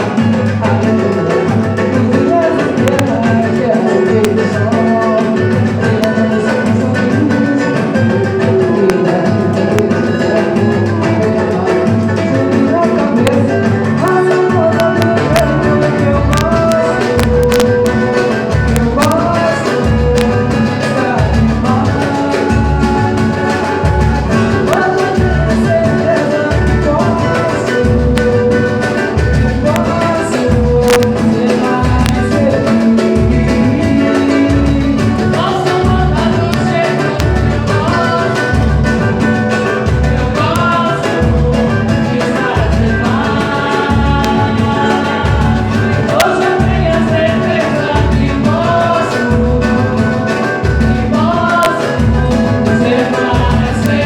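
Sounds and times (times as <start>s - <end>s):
low drum beat: 0.0s - 54.0s
person singing: 0.0s - 54.0s.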